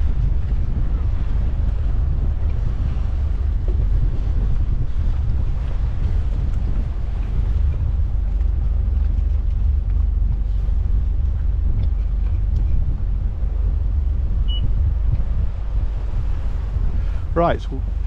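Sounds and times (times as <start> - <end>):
boat engines rumbling: 0.0 - 18.0.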